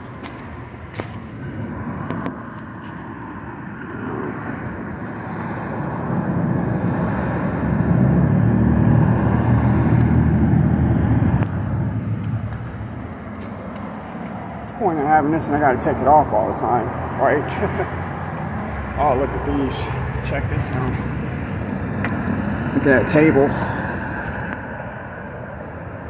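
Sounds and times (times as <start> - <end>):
vehicle driving past: 0.0 - 25.4.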